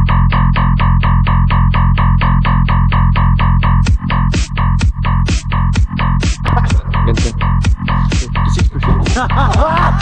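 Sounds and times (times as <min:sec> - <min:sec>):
electronic dance music: 0:01.8 - 0:10.0.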